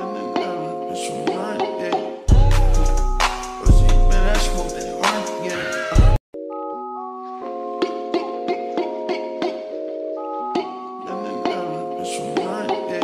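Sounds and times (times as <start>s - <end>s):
music track with beat: 0.0s - 13.0s
music with held notes: 0.0s - 13.0s
sustained keyboard chords: 2.3s - 13.0s.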